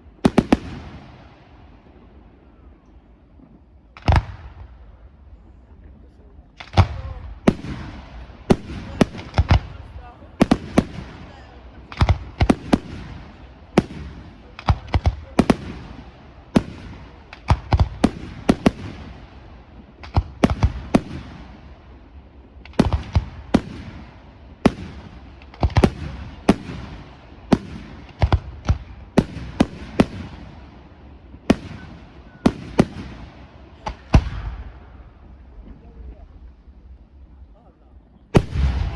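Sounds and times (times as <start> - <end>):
fireworks bursting with echo: 0.0 - 38.9.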